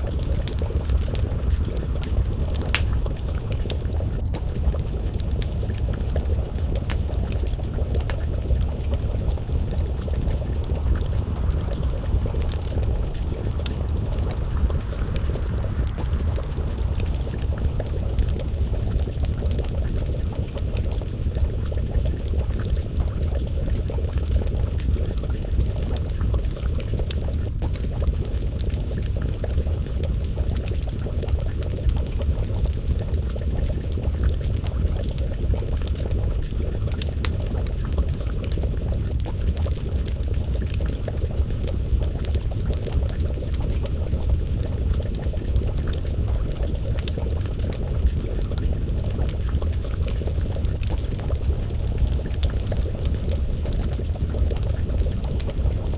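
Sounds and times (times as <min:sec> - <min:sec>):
low rumble: 0:00.0 - 0:55.9
stew bubbling in a pot: 0:00.0 - 0:55.9
wood fire crackling and popping: 0:00.0 - 0:55.9.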